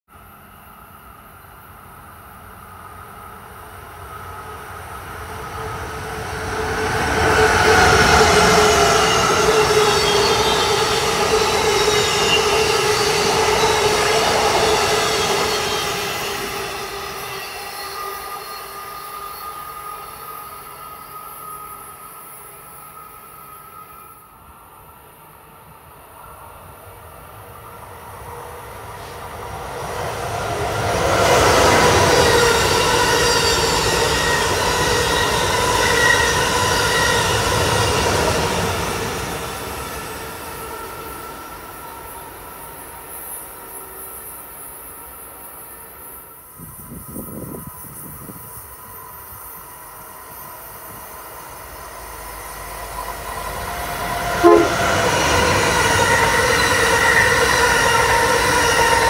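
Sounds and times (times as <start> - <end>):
electric trains at speed: 0.1 - 59.0
rail and wheel noise: 0.1 - 59.0.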